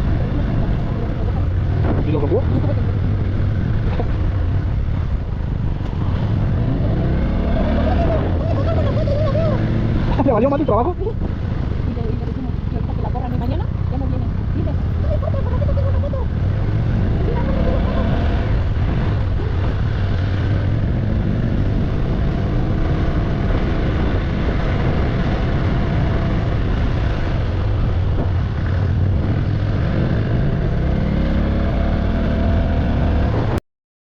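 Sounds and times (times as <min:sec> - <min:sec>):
motorcycle engine rumble: 0:00.0 - 0:33.6
wind rushing over microphone: 0:00.0 - 0:33.6.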